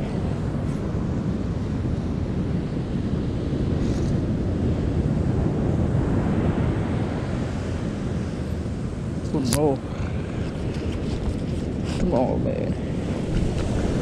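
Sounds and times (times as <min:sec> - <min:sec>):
ocean surf rushing: 0:00.0 - 0:14.0
wind buffeting microphone: 0:00.0 - 0:14.0.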